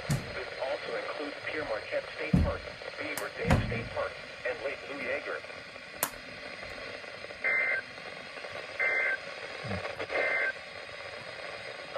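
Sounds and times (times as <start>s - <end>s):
steady radio hiss: 0.0s - 11.9s
harsh two-tone data warble: 0.2s - 10.7s.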